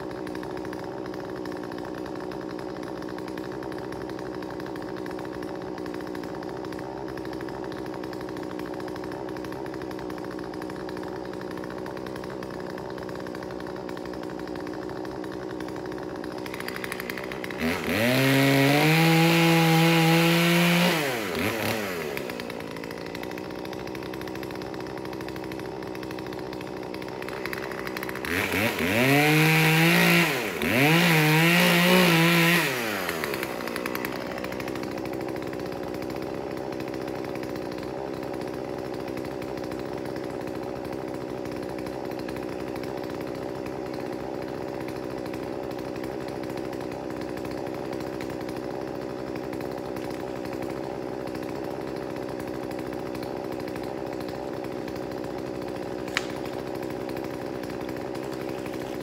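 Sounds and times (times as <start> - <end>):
chainsaw revving and idling: 0.0 - 59.0.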